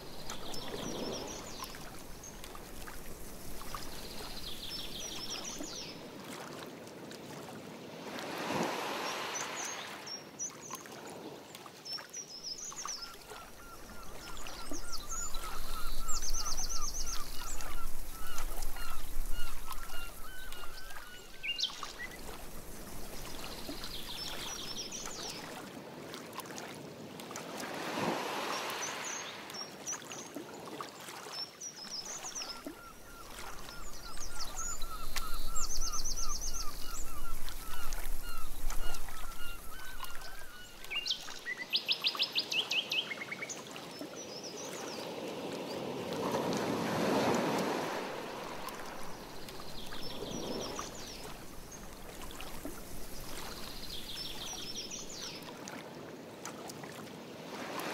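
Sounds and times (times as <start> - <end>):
paddle swishing through water: 0.0 - 42.2, 43.2 - 57.9.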